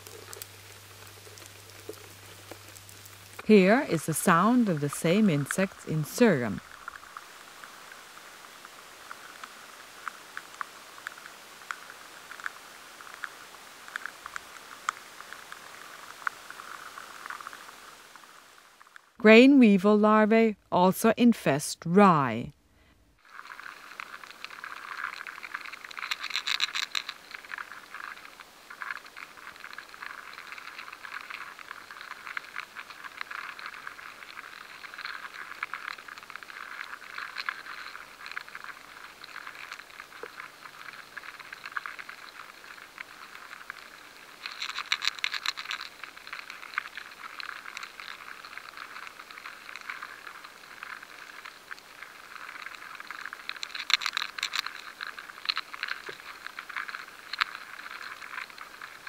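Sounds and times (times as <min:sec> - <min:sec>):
larvae feeding clicks and scratches: 0:00.0 - 0:19.1, 0:23.2 - 0:59.0.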